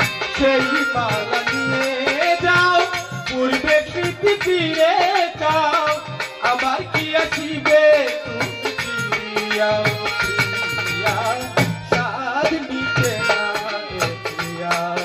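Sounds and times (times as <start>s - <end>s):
harmonium chords: 0.0s - 15.0s
man singing into microphone: 0.0s - 15.0s.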